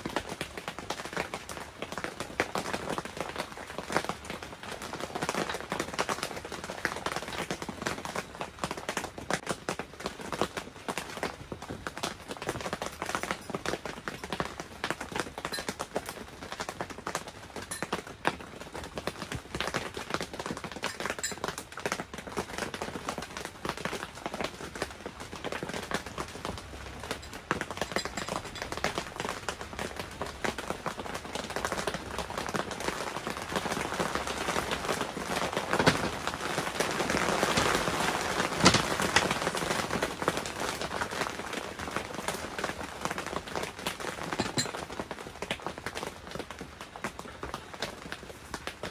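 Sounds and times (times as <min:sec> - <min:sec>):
rain pattering on a tent: 0:00.0 - 0:48.9.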